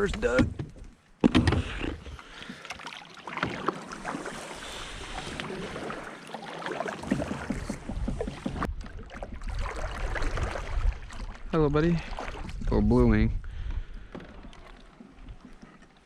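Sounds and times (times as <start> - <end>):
water lapping at hull: 0.0 - 16.0
paddle strokes splashing: 1.3 - 12.7, 13.5 - 16.0.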